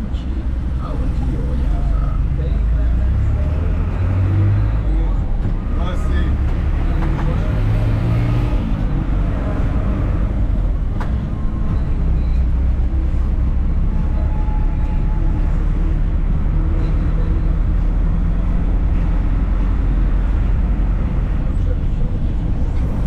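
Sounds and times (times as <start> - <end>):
road vehicle rumble: 0.0 - 23.0
surrounding traffic: 0.0 - 23.0.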